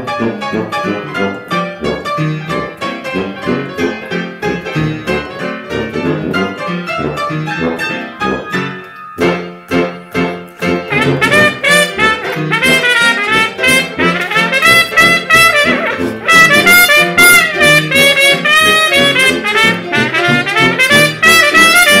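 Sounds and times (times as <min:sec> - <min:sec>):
piano chords: 0:00.0 - 0:22.0
trumpet melody: 0:00.0 - 0:22.0
tuba bass line: 0:00.0 - 0:22.0.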